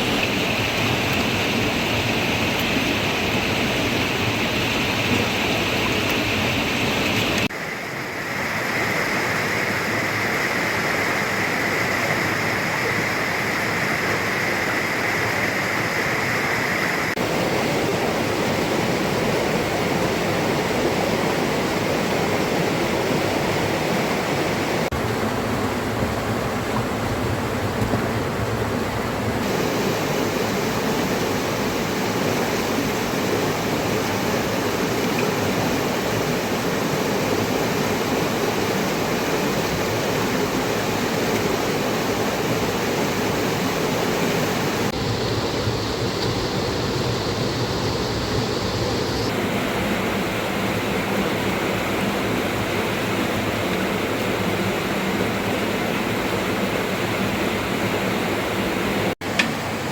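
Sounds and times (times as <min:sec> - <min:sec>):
flowing river water: 0:00.0 - 0:59.9
heavy rain: 0:00.0 - 0:59.9.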